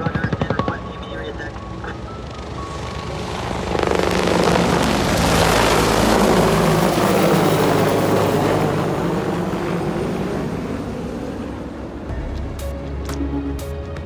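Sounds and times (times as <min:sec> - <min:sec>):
helicopter passing overhead: 0:00.0 - 0:14.0.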